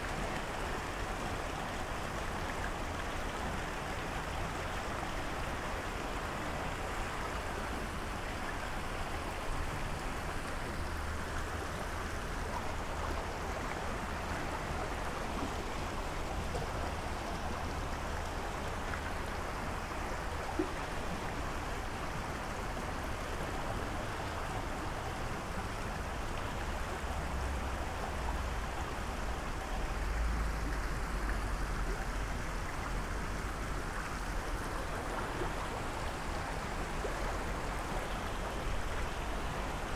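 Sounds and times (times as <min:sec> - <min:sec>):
fast-flowing river rushing: 0:00.0 - 0:39.9.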